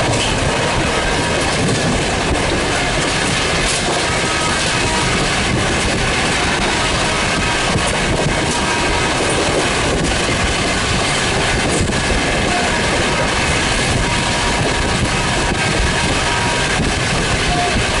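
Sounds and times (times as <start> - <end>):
train rushing past: 0.0 - 18.0
wheels clacking over rails: 0.0 - 18.0.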